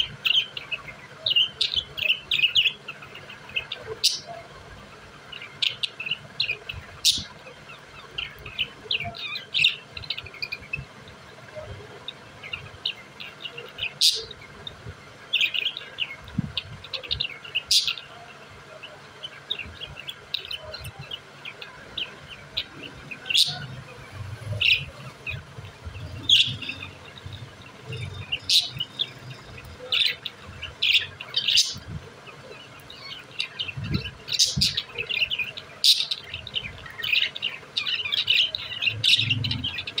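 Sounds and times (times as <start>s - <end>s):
budgerigars chattering: 5.2s - 23.8s, 24.6s - 40.0s
sharp bird calls: 5.2s - 40.0s.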